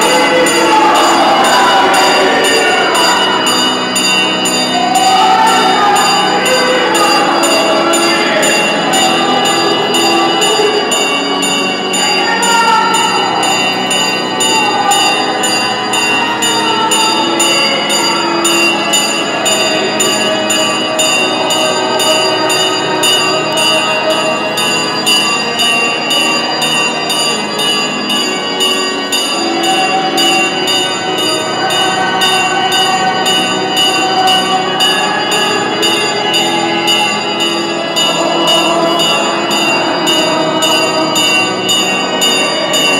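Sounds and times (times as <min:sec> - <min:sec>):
bells ringing rapidly: 0:00.0 - 0:42.9
crowd voices: 0:00.0 - 0:42.9.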